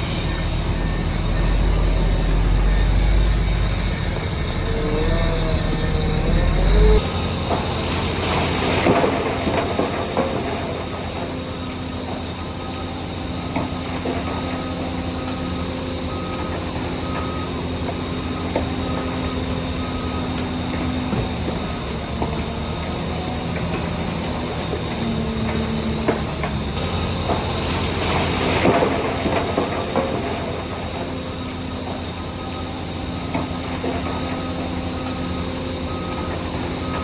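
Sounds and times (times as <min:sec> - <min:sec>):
bulldozer diesel engine: 0:00.0 - 0:37.0
steel tracks clanking and squealing: 0:00.0 - 0:37.0.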